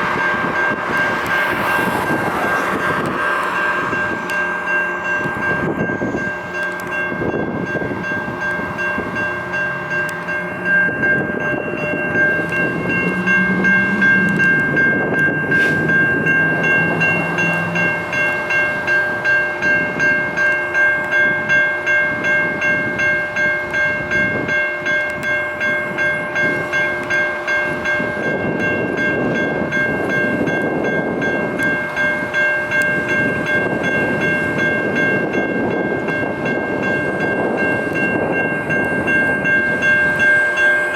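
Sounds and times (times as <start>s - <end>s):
crossing bells ringing: 0.0s - 40.9s
light rail train passing: 0.0s - 40.9s.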